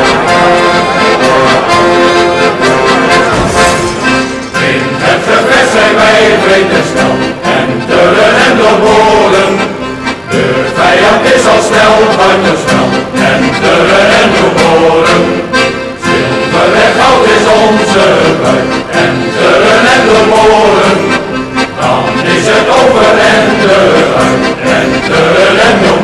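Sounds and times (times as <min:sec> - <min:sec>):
folk tune on accordion: 0:00.0 - 0:26.0.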